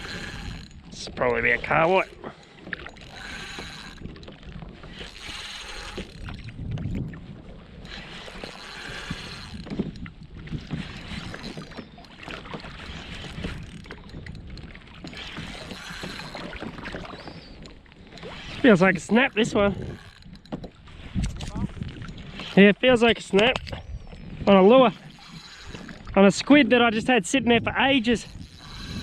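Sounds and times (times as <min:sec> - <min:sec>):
water slapping against hull: 0:00.0 - 0:29.0.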